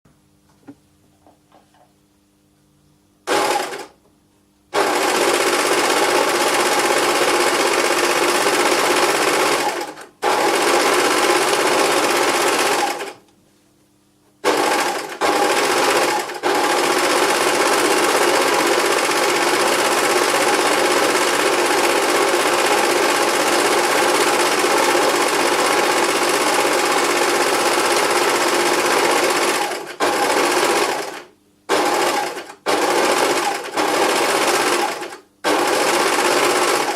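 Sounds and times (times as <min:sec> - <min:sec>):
electric sewing machine running: 0:03.3 - 0:04.0, 0:04.7 - 0:13.2, 0:14.4 - 0:36.9.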